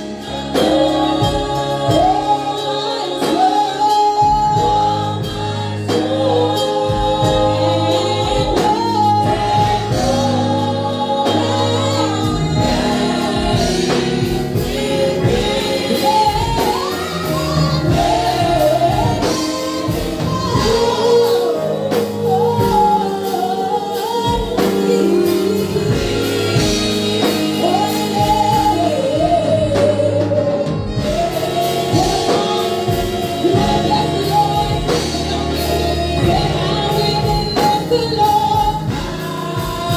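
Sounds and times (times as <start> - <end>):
band accompaniment with bass: 0.0 - 39.9
choir singing gospel: 0.0 - 39.9.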